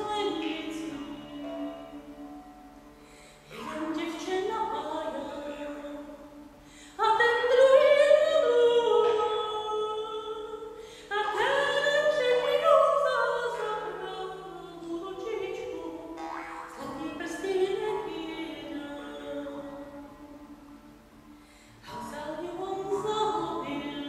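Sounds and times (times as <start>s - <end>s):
person singing: 0.0s - 2.7s, 3.5s - 6.4s, 7.0s - 20.9s, 21.8s - 24.0s.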